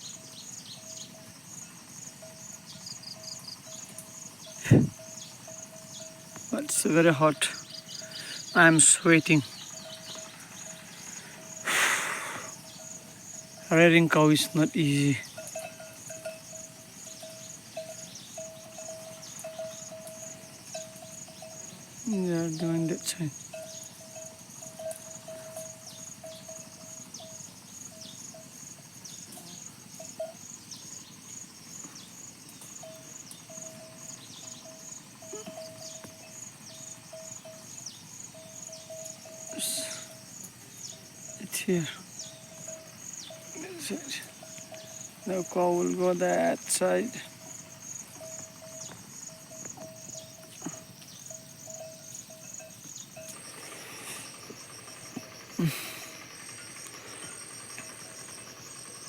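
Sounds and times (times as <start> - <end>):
insects chirping in rapid pulses: 0.0 - 59.0.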